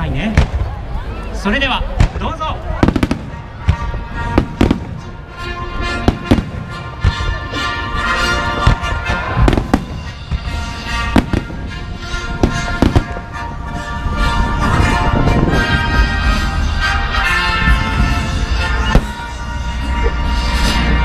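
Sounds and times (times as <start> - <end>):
fireworks bursting: 1.8 - 16.3, 18.2 - 20.5
music over loudspeakers: 2.8 - 21.0.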